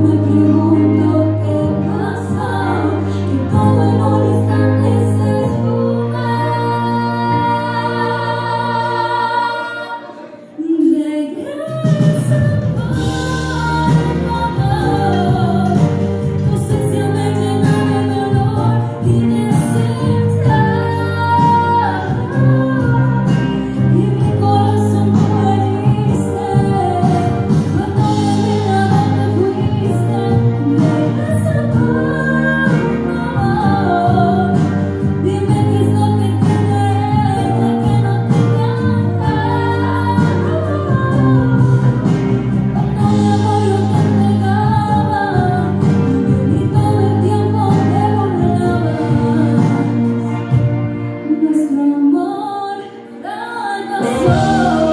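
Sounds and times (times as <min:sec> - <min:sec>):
instrumental backing with bass line: 0:00.0 - 0:54.9
woman singing: 0:00.0 - 0:54.9.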